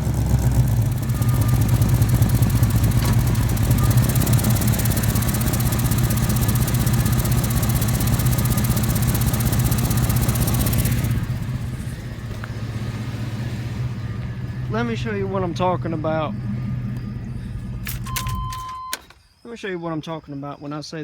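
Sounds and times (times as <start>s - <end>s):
exhaust leak ticking: 0.0s - 17.8s
pickup engine idling: 0.0s - 18.7s.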